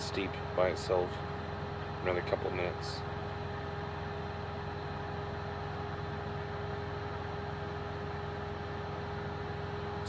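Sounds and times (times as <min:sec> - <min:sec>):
idling engine hum: 0:00.0 - 0:10.0
thin steady whine: 0:00.0 - 0:10.0.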